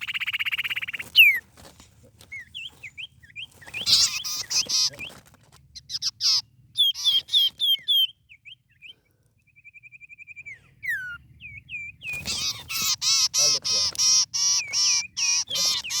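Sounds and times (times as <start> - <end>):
songbird singing: 0.0 - 1.5, 2.2 - 16.0.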